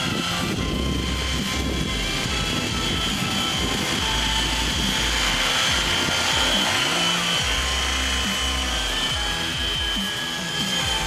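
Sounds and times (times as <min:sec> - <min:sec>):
model helicopter rotor whine: 0:00.0 - 0:11.0.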